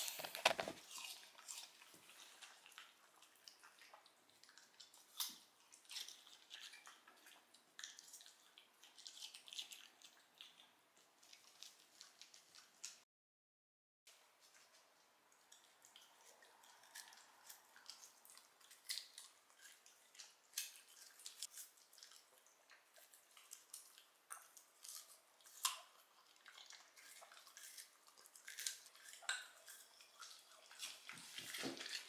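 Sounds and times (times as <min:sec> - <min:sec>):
dog chewing with clicks and smacks: 0:00.0 - 0:13.0, 0:14.1 - 0:32.0.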